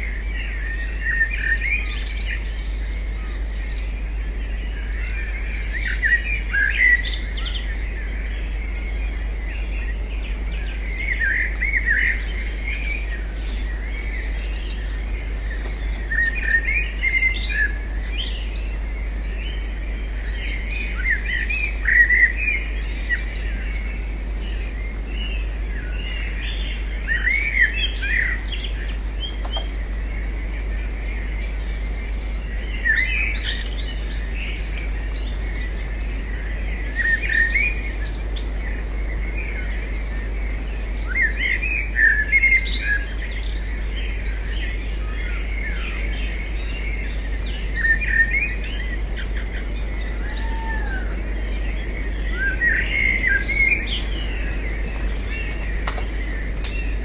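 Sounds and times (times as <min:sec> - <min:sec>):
high background hiss: 0:00.0 - 0:57.0
songbirds chirping: 0:00.0 - 0:57.0.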